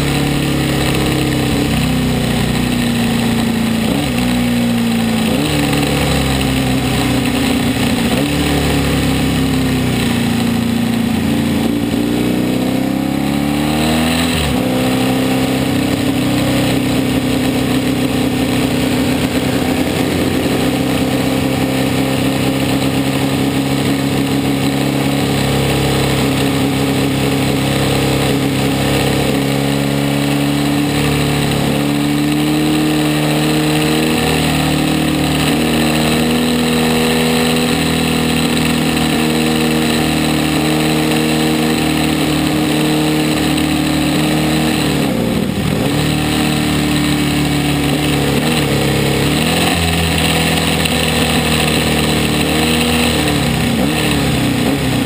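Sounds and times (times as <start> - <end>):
racing motorcycle engine revving: 0.0 - 55.0.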